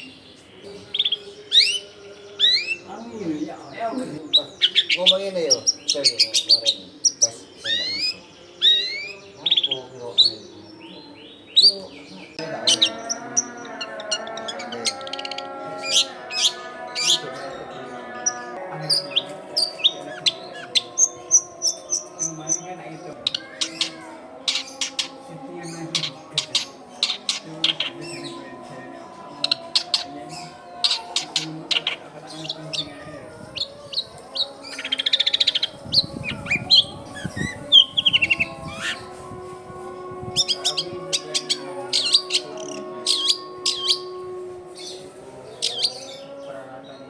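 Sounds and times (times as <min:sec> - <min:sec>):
shrike singing chirps and trills: 0:00.0 - 0:47.0.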